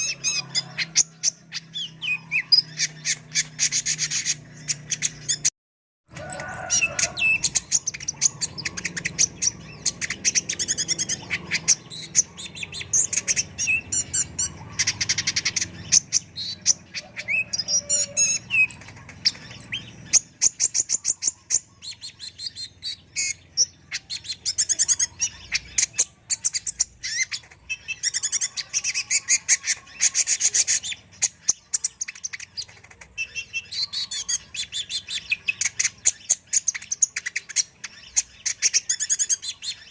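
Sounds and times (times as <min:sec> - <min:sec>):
sunbird singing chirps and trills: 0:00.0 - 0:05.5, 0:06.1 - 0:39.9.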